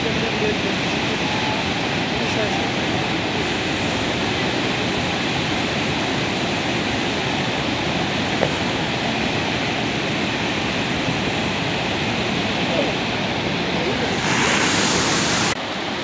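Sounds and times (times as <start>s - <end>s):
water rushing down waterfall: 0.0s - 16.0s.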